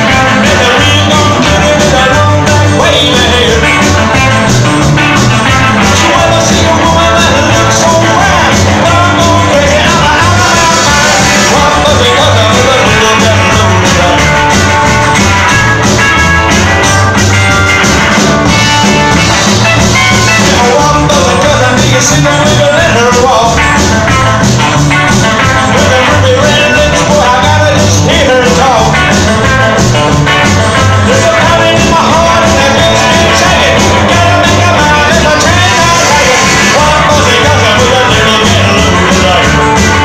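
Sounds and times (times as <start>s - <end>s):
pulsing bass line: 0.0s - 40.0s
rockabilly band playing: 0.0s - 40.0s.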